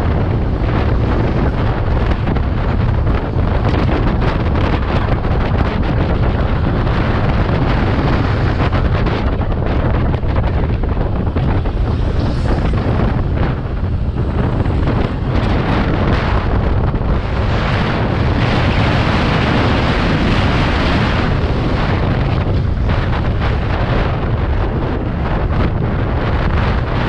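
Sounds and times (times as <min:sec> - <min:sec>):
scooter road noise: 0:00.0 - 0:27.0
wind rushing over microphone: 0:00.0 - 0:27.0.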